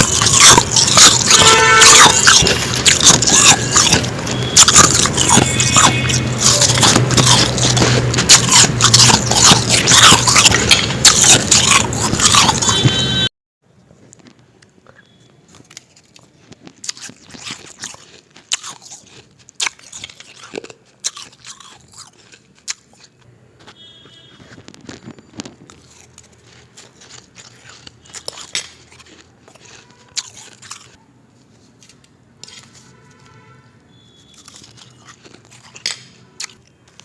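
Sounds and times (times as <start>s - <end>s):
chewing and crunching ice: 0.0s - 13.3s, 14.8s - 37.0s.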